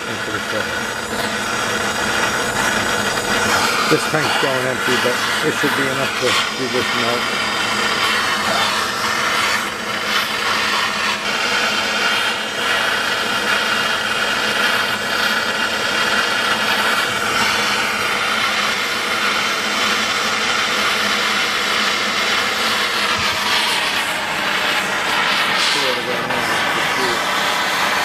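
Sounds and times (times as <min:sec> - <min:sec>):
gas torch hissing: 0:00.0 - 0:28.0.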